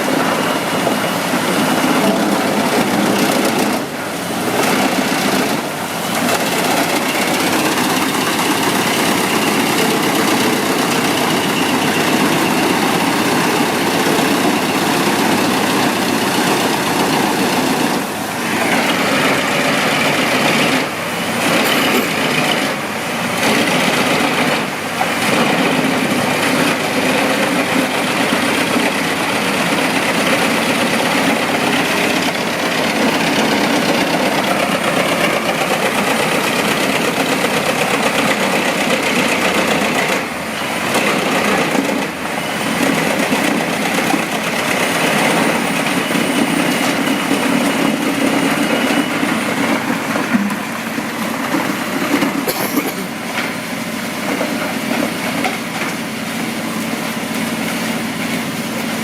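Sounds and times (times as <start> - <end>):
wood chipper engine running: 0.0 - 59.0.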